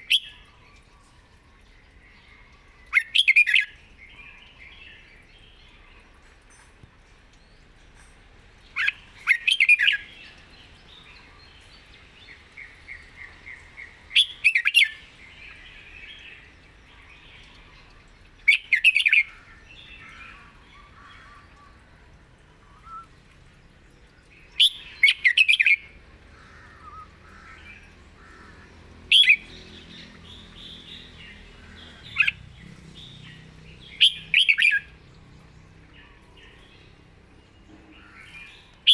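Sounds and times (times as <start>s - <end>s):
bird singing warbled phrases: 0.0s - 6.2s, 8.6s - 38.9s.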